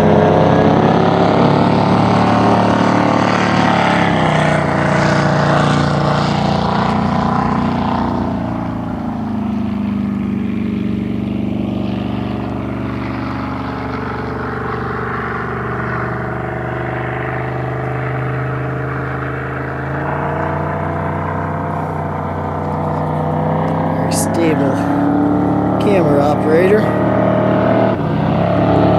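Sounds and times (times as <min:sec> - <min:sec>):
boat engine running: 0:00.0 - 0:28.9.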